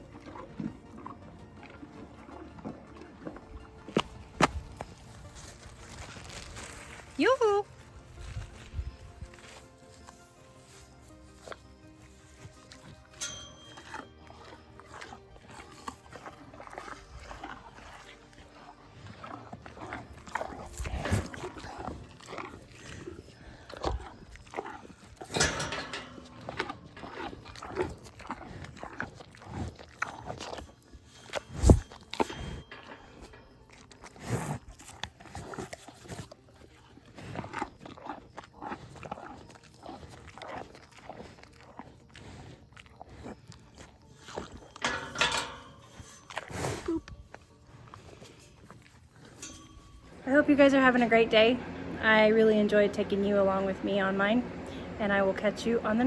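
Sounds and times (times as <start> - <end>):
animals crunching and chewing: 0.0 - 56.0.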